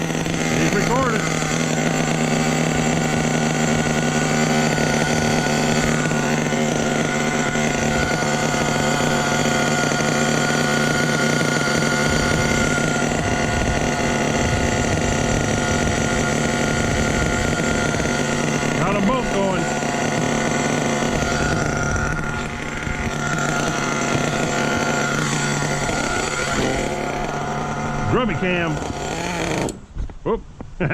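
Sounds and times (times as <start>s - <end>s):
model engine idling with high buzz: 0.0s - 29.9s.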